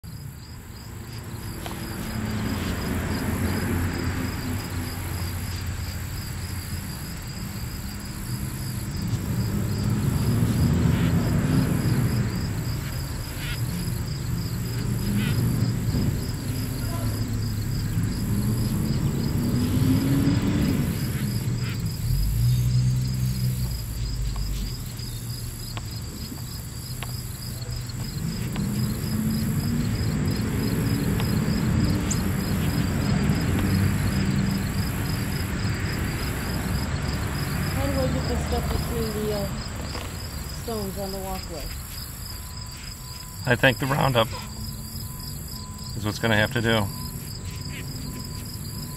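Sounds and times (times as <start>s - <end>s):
insect chirping: 0.0s - 48.9s
passing motor vehicles rumble: 0.0s - 48.9s.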